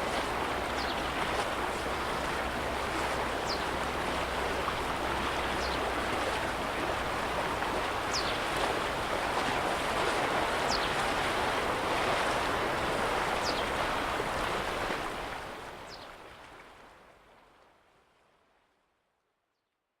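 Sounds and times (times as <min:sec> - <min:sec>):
small waves lapping at shore: 0:00.0 - 0:17.8.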